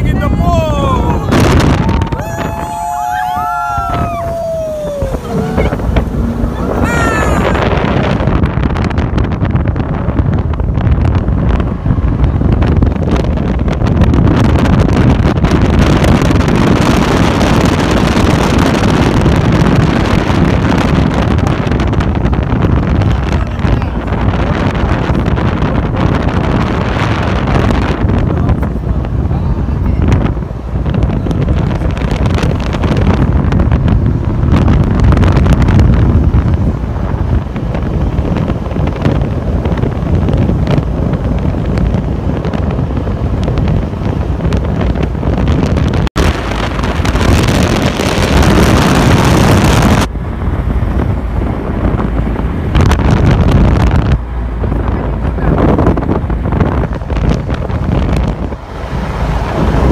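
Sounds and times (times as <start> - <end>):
boat engine drone: 0.0 - 11.7, 12.5 - 59.9
water rushing along hull: 0.0 - 59.9
wind buffeting microphone: 0.0 - 59.9.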